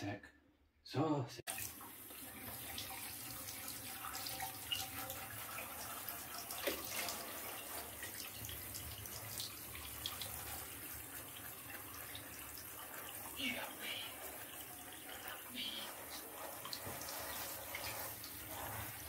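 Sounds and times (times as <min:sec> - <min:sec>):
shower spraying water: 0:01.5 - 0:19.0.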